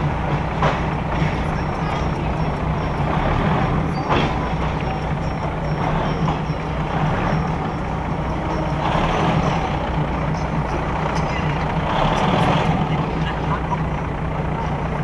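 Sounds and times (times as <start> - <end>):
diesel engine drone: 0.0 - 15.0
wheel and rail noise: 0.0 - 15.0.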